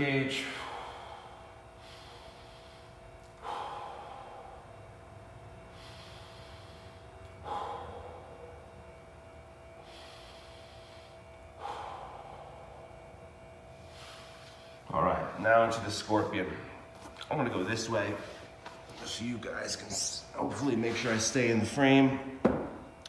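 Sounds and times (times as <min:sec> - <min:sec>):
deep breathing: 0:00.0 - 0:16.9, 0:17.6 - 0:19.8.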